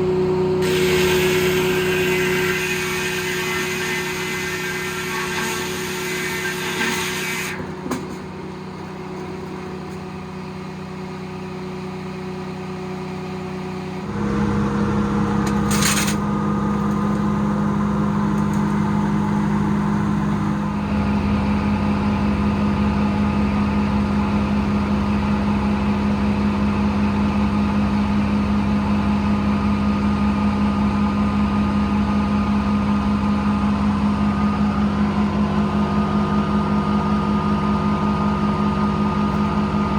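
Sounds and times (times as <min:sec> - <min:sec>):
diesel engine running: 0:00.0 - 0:05.0, 0:07.6 - 0:39.9.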